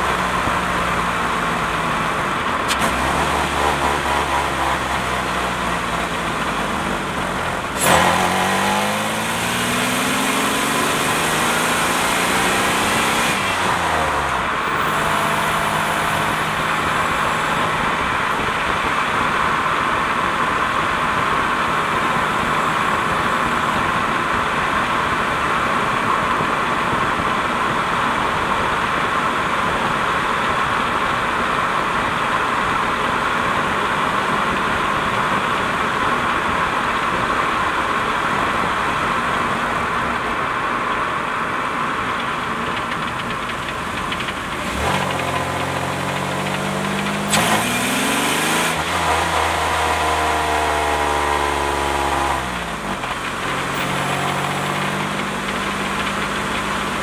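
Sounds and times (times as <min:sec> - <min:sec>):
car engine revving: 0:00.0 - 0:57.0
road and drivetrain noise: 0:00.0 - 0:57.0.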